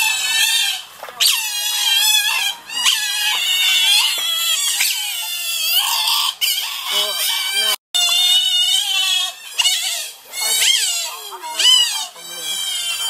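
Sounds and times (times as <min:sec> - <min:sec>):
otter squealing: 0:00.0 - 0:13.0.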